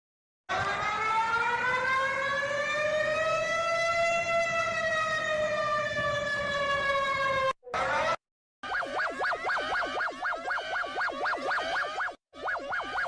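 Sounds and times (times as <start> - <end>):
warning siren wailing: 0.5 - 13.0.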